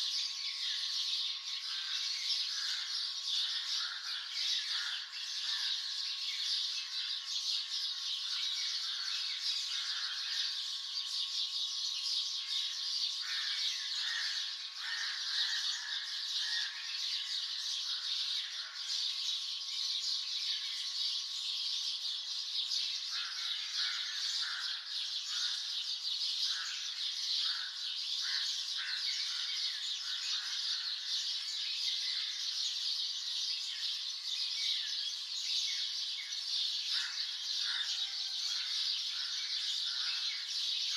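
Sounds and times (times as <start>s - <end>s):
songbirds chirping and calling: 0.0s - 40.9s.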